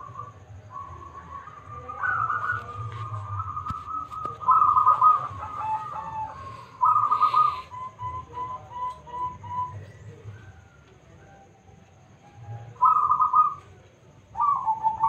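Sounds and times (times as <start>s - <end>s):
dove cooing: 0.0s - 10.8s, 12.6s - 15.0s.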